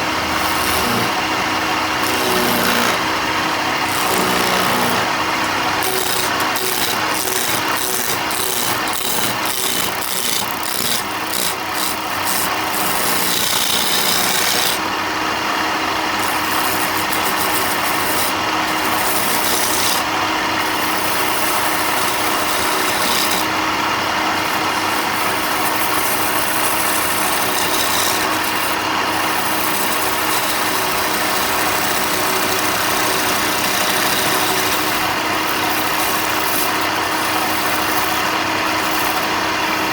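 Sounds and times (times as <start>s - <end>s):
power tool grinding wood: 0.0s - 39.9s.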